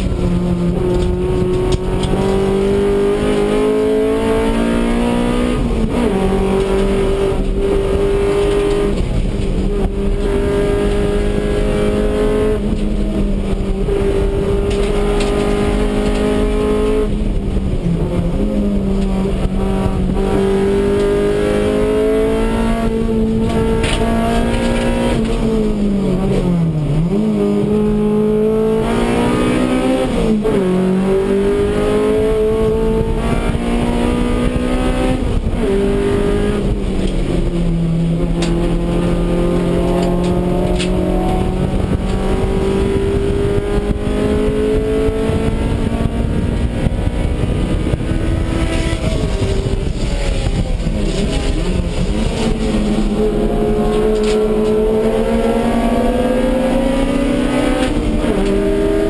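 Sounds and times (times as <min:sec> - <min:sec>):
race car engine revving hard: 0:00.0 - 0:59.0.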